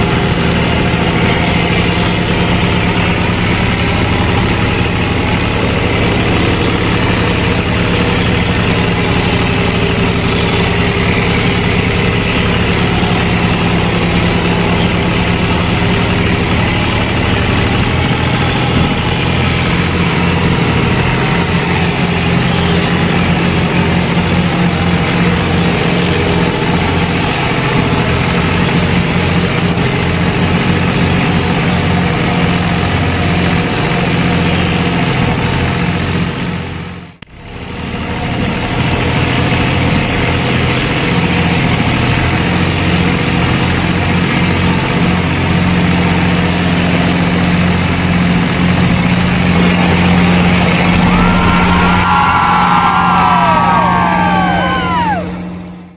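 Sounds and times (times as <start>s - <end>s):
tractor engine idling: 0.0s - 55.8s.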